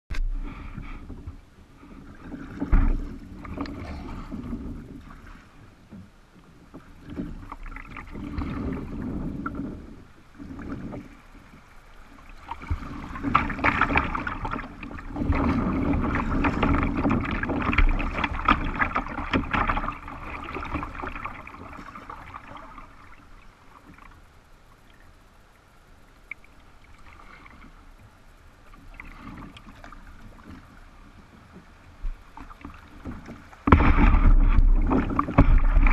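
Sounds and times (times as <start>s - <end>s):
water splashing around a kayak: 0.1s - 35.9s.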